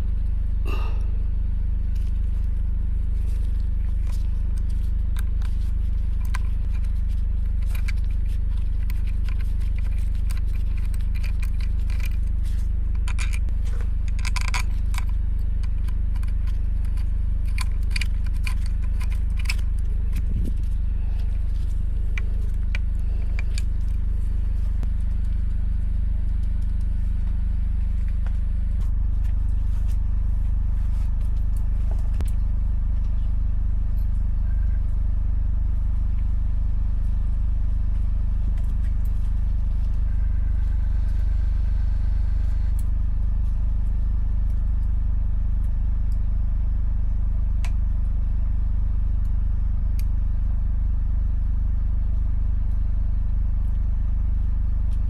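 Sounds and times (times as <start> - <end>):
motorcycle engine rumbling: 0.0 - 53.2.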